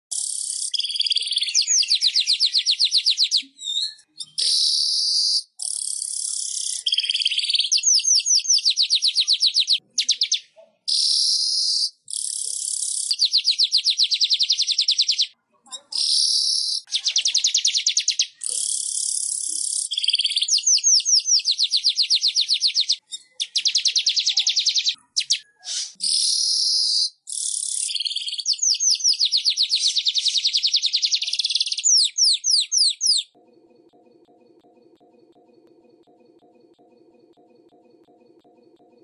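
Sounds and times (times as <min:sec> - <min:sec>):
bird chattering and trilling: 0:00.1 - 0:33.4.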